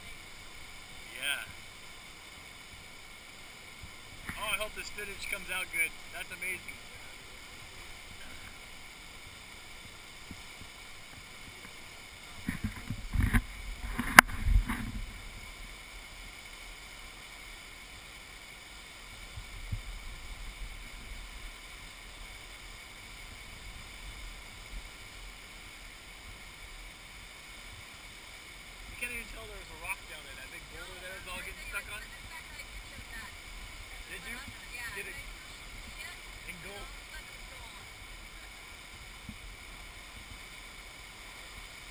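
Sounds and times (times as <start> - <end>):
flood water rushing: 0.0 - 41.9.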